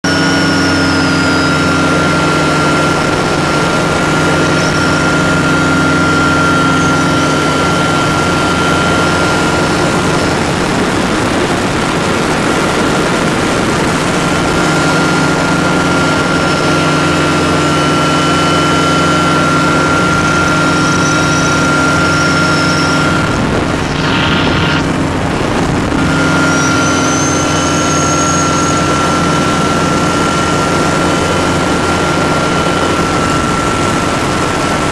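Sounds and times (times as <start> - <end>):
aircraft engine and propeller drone: 0.0 - 34.9
high whine: 0.0 - 34.9.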